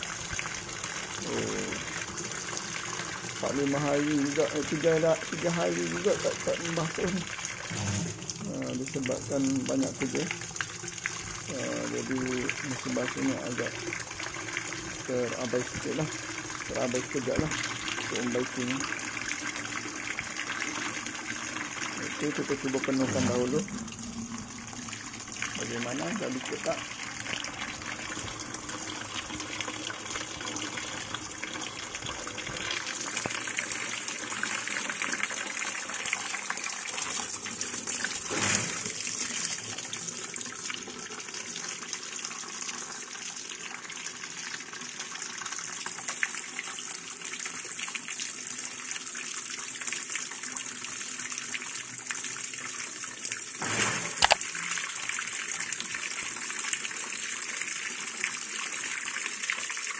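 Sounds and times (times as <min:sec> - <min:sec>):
water gushing into washing machine: 0:00.0 - 0:59.9.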